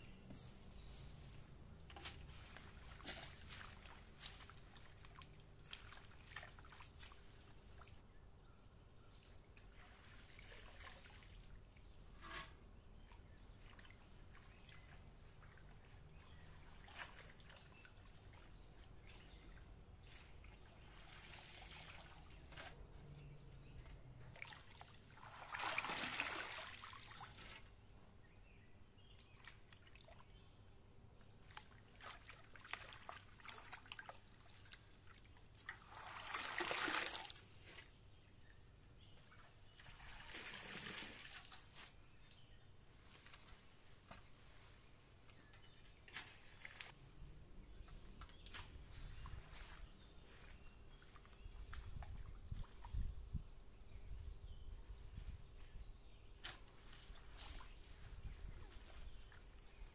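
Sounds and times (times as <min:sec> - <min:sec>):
water splashing and trickling: 0:00.7 - 0:08.0, 0:09.2 - 0:27.8, 0:28.9 - 0:30.4, 0:31.2 - 0:54.0, 0:56.4 - 0:59.9.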